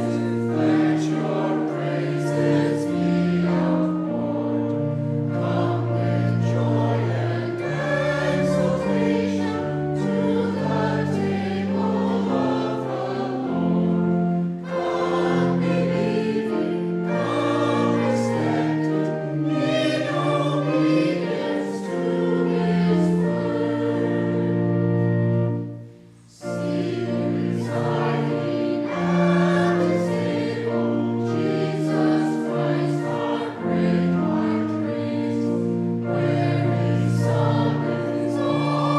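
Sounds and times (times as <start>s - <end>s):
congregation singing a hymn: 0.0s - 38.9s
instrumental accompaniment: 0.0s - 38.9s.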